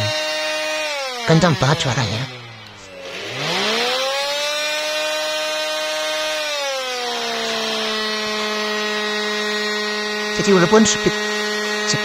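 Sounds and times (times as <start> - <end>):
stick vacuum motor whining: 0.0 - 12.0.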